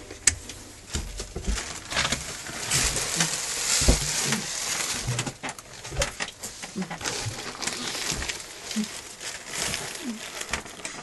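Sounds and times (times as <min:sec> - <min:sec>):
rustling handling noise: 0:00.0 - 0:11.0.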